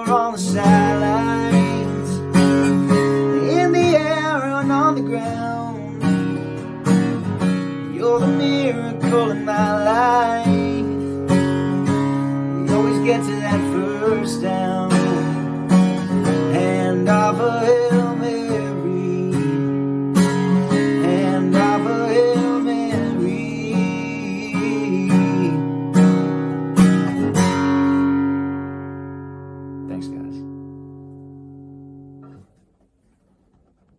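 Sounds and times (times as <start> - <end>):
strummed acoustic guitar: 0.0 - 33.9.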